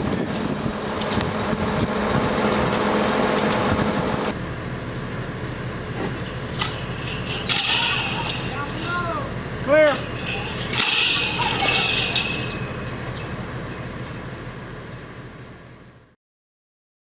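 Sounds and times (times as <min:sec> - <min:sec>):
engine humming: 0:00.0 - 0:16.2.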